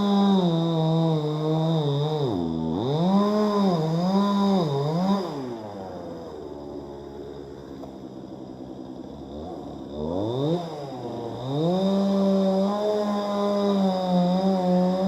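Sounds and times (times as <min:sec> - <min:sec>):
chainsaw engine idling and revving: 0:00.0 - 0:15.0.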